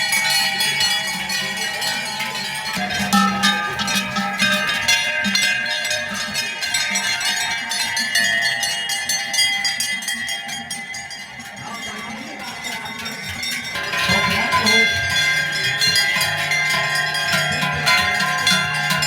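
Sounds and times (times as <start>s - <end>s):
cowbells clanging: 0.0s - 19.0s.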